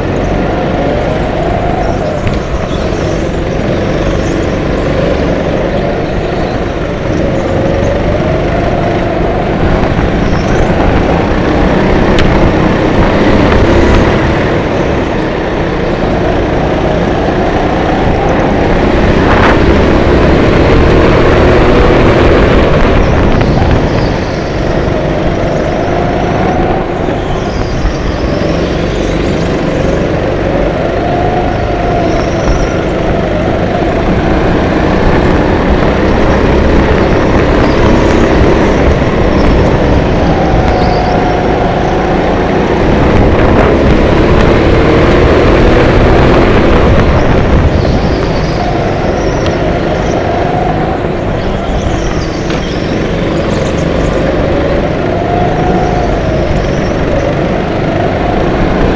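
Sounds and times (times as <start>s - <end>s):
go-kart motor revving: 0.0s - 58.9s.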